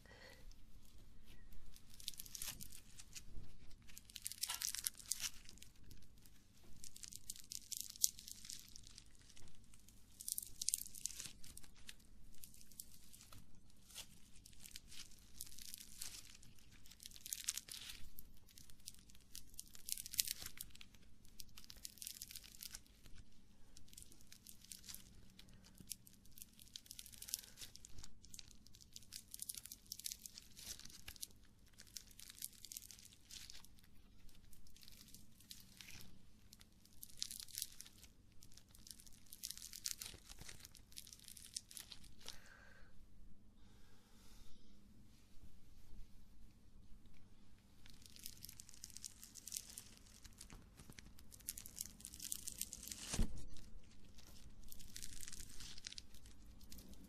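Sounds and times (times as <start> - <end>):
crackling and crunching handling: 0.0 - 42.6, 47.0 - 57.0.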